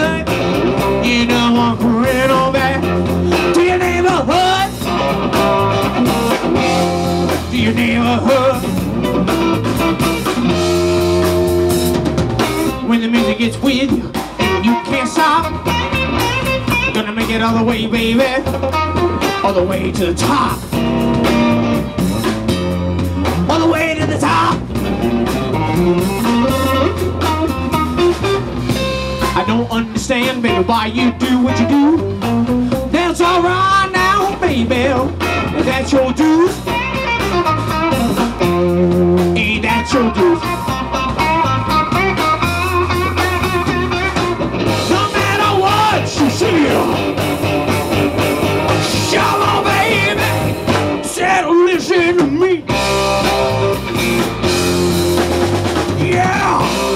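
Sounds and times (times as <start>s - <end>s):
bass line: 0.0s - 56.9s
drum kit: 0.0s - 56.9s
electric guitar: 0.0s - 56.9s
live blues-rock band: 0.0s - 56.9s.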